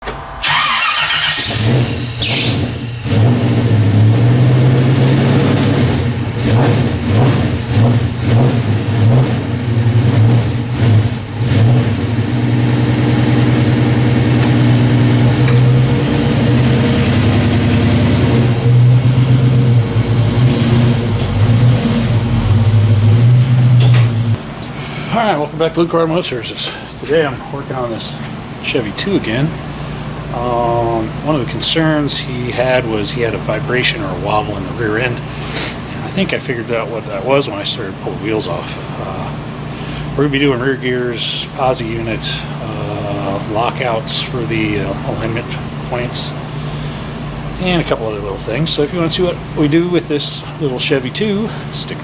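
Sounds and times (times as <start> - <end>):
car engine running: 0.2 - 24.6, 25.9 - 52.0.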